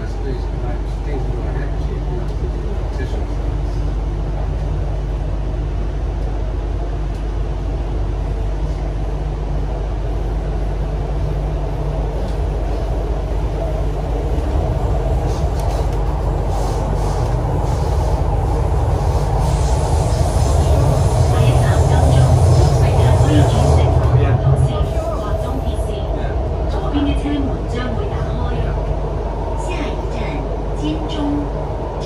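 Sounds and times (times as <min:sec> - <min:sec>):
train rumbling on board: 0:00.0 - 0:32.0.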